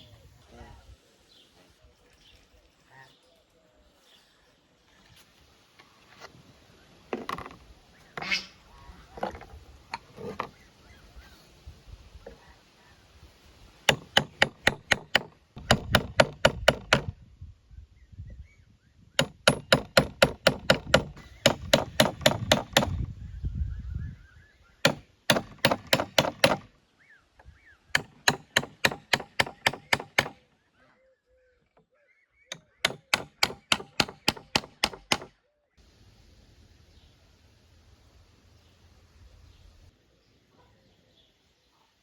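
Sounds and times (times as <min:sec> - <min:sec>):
birds chirping faintly: 0:00.0 - 0:16.3, 0:20.7 - 0:42.0.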